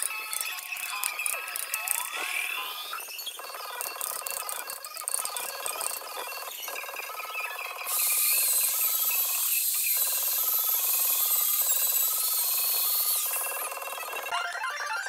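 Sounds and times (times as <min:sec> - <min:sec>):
rotary tool grinding wood: 0:00.0 - 0:14.3.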